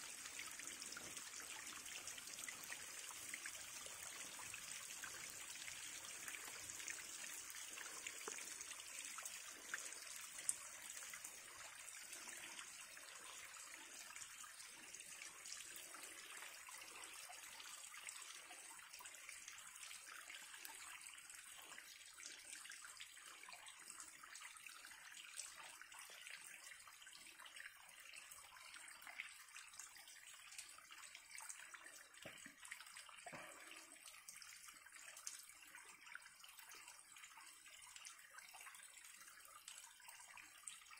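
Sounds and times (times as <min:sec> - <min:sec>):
water trickling over rocks: 0:00.0 - 0:40.9.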